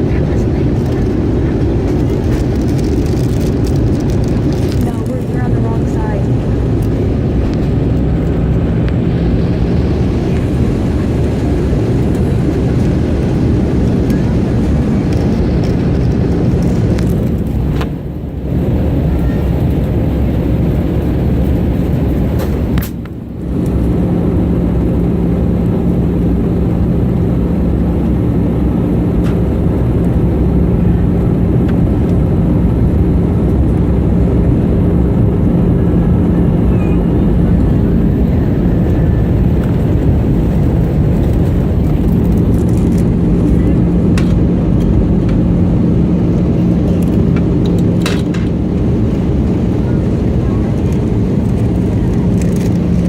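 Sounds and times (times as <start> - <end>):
airplane cabin engine drone: 0.0 - 53.0.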